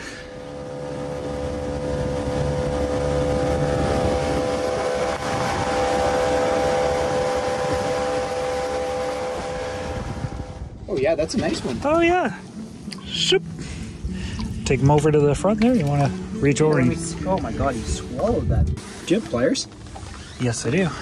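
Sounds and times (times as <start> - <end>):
outboard motor running: 0.0 - 10.8, 11.4 - 21.0
rushing wind and water: 0.0 - 21.0.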